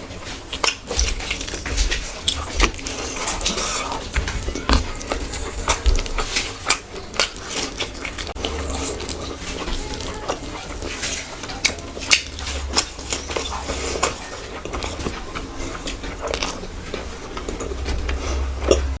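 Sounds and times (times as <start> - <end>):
chewing: 0.0 - 19.0
steady low hum: 0.0 - 19.0.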